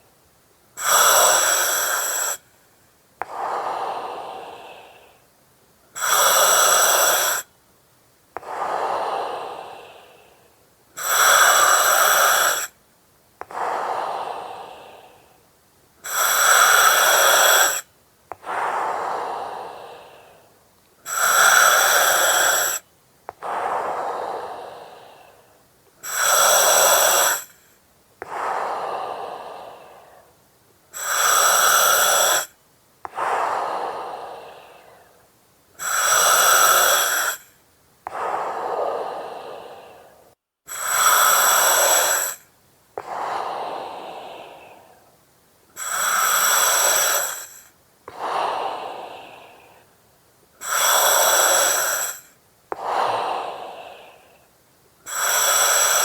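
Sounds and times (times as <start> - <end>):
breathing through oxygen mask: 0.8 - 2.4, 6.0 - 7.5, 8.4 - 10.4, 11.0 - 12.8, 16.0 - 35.2, 35.8 - 45.1, 45.8 - 50.0, 50.6 - 56.0.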